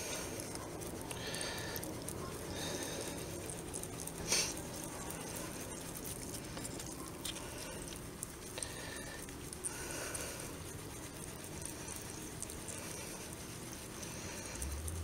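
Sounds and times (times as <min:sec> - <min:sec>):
wet sponge scrubbing: 0:00.0 - 0:15.0.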